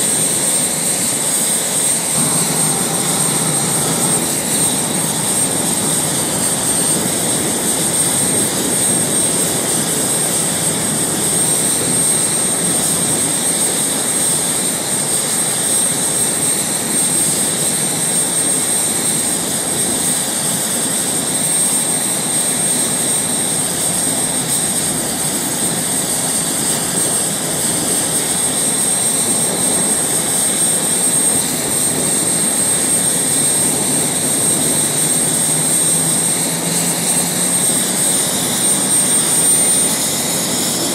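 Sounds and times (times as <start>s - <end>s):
high jet whine: 0.0s - 40.9s
jet engine rumble: 0.0s - 40.9s.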